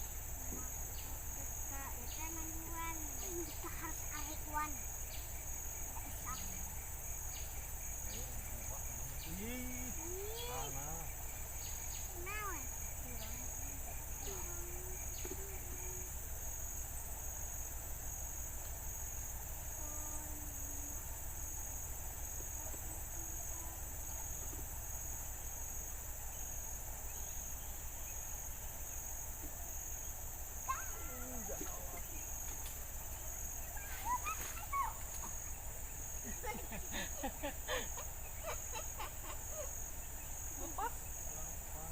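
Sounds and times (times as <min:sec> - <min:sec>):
pulsing insect drone: 0:00.0 - 0:41.9.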